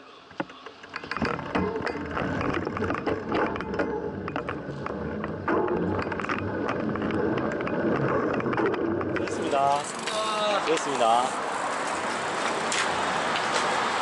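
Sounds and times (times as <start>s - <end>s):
bike rattles and clicks: 0.3s - 14.0s
tyre and wind noise: 0.3s - 14.0s.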